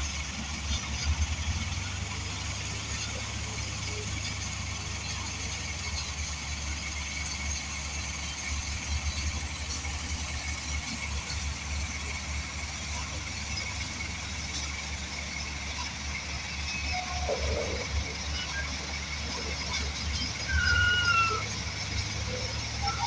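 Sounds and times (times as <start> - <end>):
diesel engine rumbling: 0.0 - 23.0.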